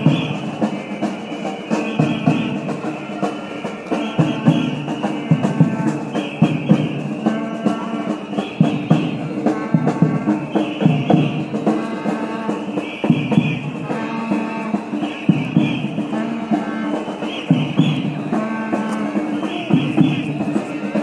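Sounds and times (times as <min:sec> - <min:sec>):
rhythmic music with drum beats: 0:00.0 - 0:21.0.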